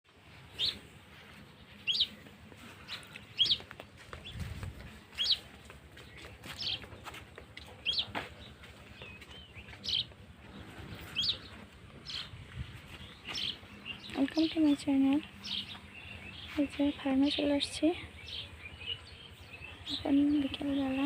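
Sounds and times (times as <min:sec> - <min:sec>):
bird chirping: 0:00.4 - 0:04.5, 0:05.1 - 0:21.0.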